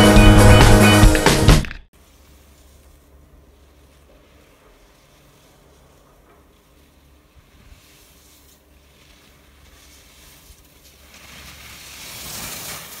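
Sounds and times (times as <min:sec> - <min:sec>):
skis scraping on packed snow: 0:02.0 - 0:13.0.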